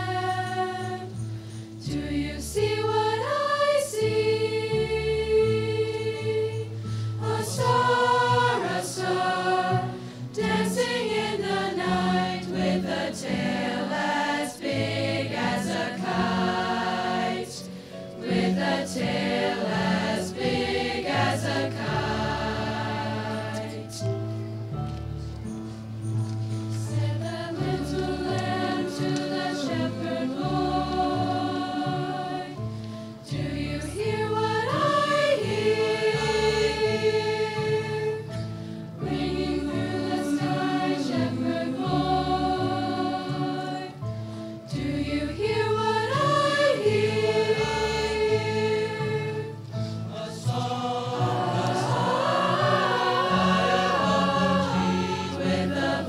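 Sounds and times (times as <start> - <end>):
choir singing a carol: 0.0 - 24.7, 26.4 - 56.0.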